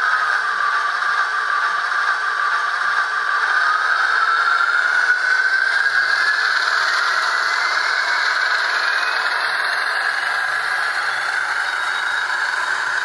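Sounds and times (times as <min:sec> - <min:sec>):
diesel engine sound through small speaker: 0:00.0 - 0:13.0
whine changing pitch: 0:02.5 - 0:13.0.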